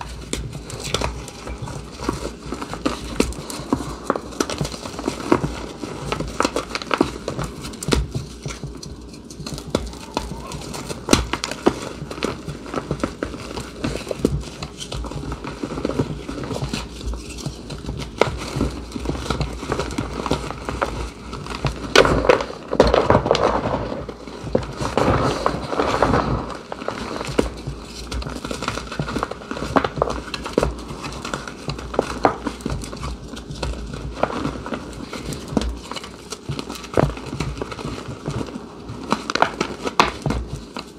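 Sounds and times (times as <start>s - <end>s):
chalk crunching and crumbling by hand: 0.0s - 40.9s.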